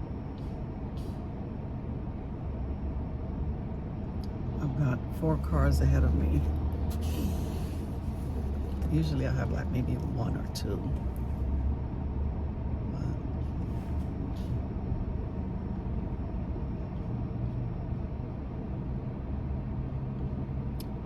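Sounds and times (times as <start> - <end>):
air-conditioning fan blowing: 0.0 - 21.0
truck engine idling: 0.0 - 21.0.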